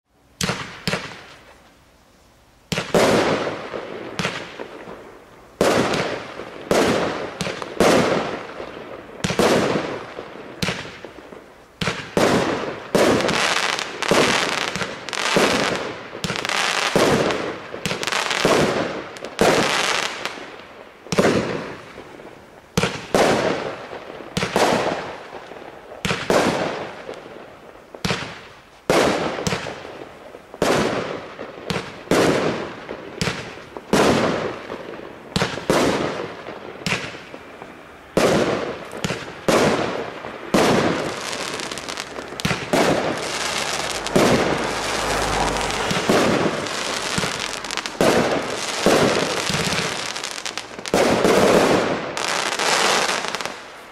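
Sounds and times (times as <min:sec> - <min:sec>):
fireworks cake firing bangs: 0:00.4 - 0:01.4, 0:02.7 - 0:05.0, 0:05.6 - 0:20.5, 0:21.1 - 0:27.3, 0:28.0 - 0:53.7.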